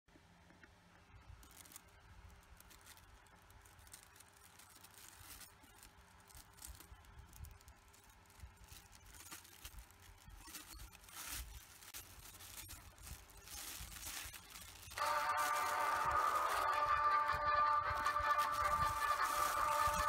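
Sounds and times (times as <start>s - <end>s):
plastic bin liner crinkling: 2.5s - 20.0s.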